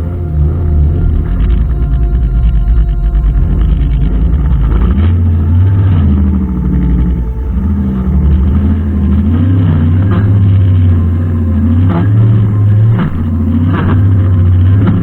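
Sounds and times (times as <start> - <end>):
brushcutter engine running: 0.0 - 15.0.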